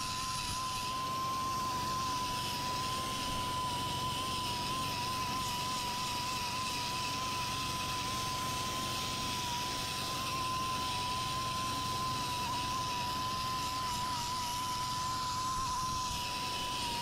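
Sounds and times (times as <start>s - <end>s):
air sander whine: 0.0s - 17.0s.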